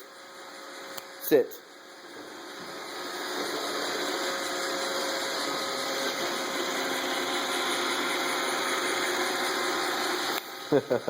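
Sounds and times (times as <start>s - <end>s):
robot vacuum humming: 1.9s - 11.0s.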